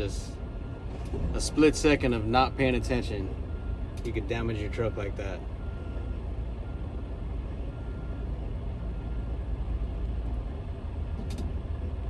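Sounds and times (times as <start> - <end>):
semi-truck engine and road noise: 0.0 - 12.0.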